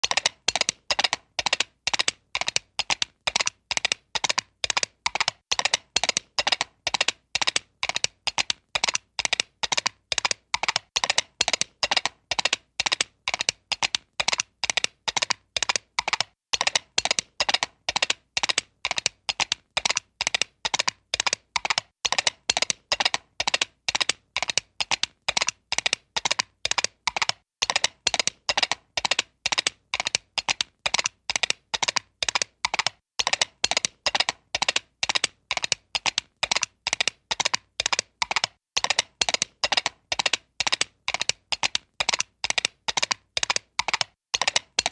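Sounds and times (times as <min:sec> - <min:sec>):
cartoon horse hooves galloping: 0:00.0 - 0:44.9.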